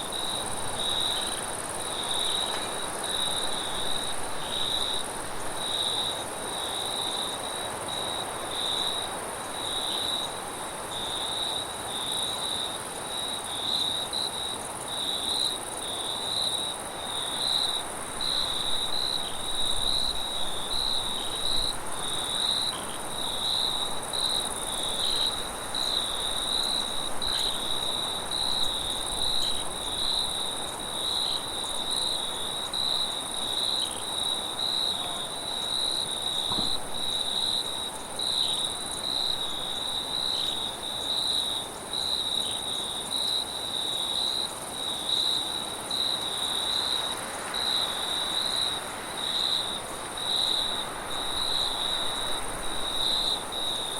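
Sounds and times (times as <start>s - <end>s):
crickets trilling: 0.0s - 53.9s.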